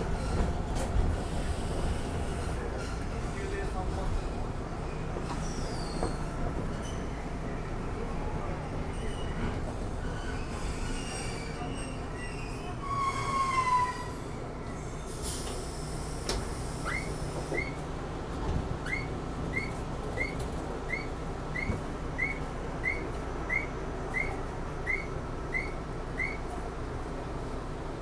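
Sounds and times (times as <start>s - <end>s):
tram wheel squeal: 0.0s - 3.6s, 4.9s - 7.4s, 8.8s - 17.8s, 18.8s - 26.6s
tram running: 0.0s - 28.0s.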